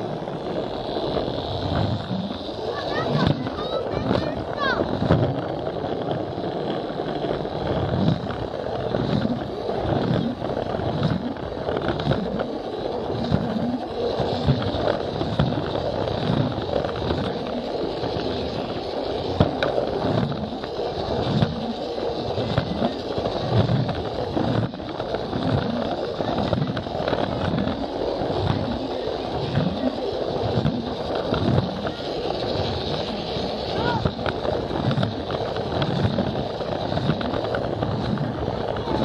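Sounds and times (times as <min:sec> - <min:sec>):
toy train whirring rattle: 0:00.0 - 0:39.0.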